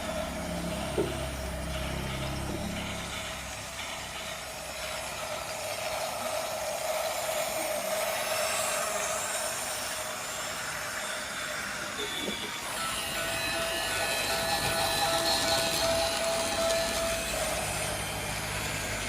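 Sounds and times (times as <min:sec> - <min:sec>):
toy train motor whirr: 0:00.0 - 0:19.0
hiss: 0:00.2 - 0:19.0.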